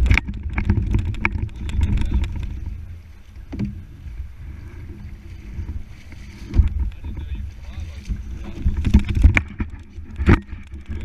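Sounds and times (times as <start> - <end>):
kayak hull scraping over stones: 0.0 - 11.0.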